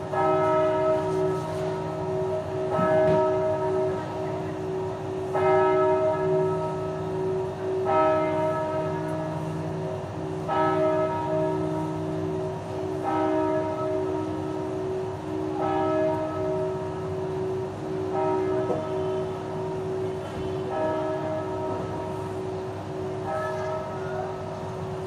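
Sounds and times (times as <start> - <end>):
church bell tolling: 0.0 - 25.0.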